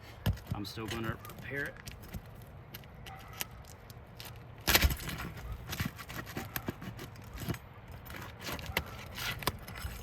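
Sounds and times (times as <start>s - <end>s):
roof shingle clicks and scrapes: 0.2s - 10.0s.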